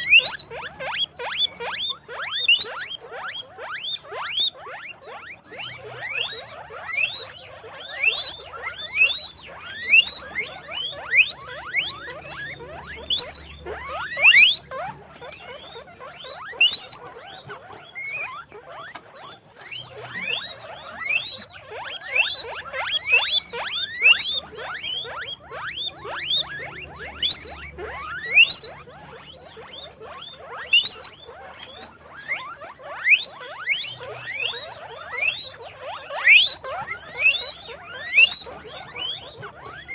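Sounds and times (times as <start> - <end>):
guinea pigs squealing: 0.0 - 39.9.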